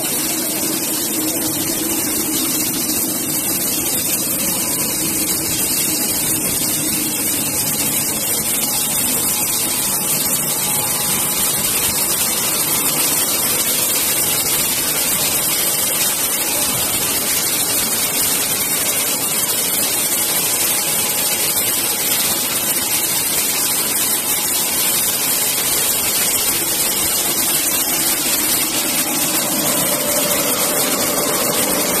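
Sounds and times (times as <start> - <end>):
machine running with hiss: 0.0 - 32.0.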